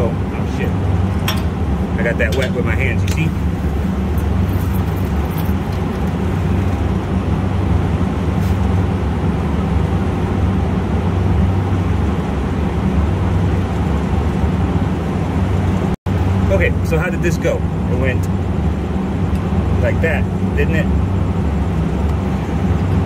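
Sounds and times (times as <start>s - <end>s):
low machinery drone: 0.0s - 23.0s.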